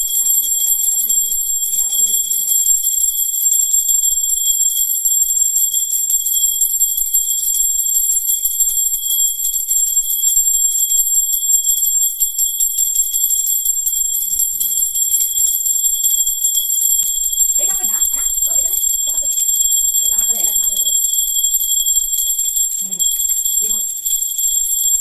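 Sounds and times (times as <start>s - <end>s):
brass hand bell ringing: 0.0s - 25.0s.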